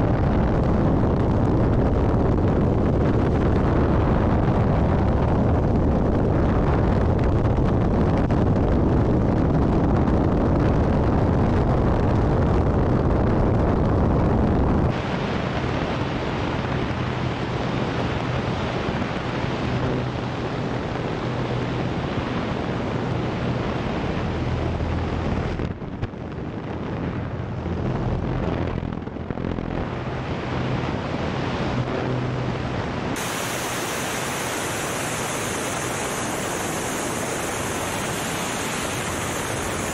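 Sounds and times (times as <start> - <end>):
propeller plane engine drone: 0.0 - 39.9
wind rushing over microphone: 0.0 - 39.9.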